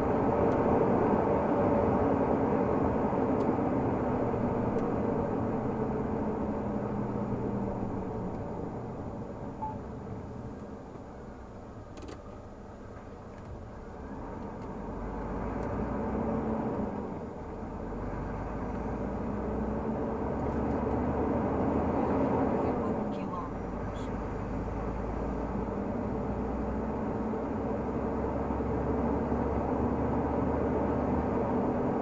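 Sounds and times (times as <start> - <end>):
diesel truck engine rumbling: 0.0 - 32.0
road noise: 0.0 - 32.0.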